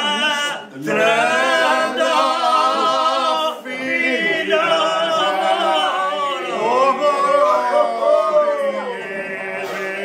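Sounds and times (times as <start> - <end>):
men singing unaccompanied: 0.0 - 10.0.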